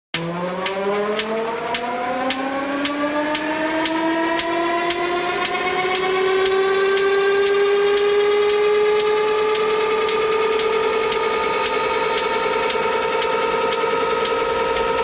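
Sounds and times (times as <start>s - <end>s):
jet engine whine: 0.2s - 15.0s
sharp ticking: 0.2s - 15.0s.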